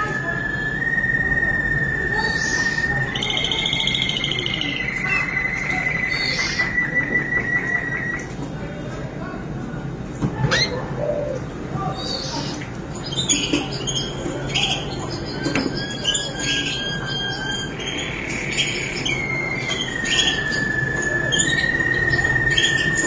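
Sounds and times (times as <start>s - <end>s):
canary singing: 0.0s - 8.3s, 10.4s - 11.3s, 11.9s - 23.0s.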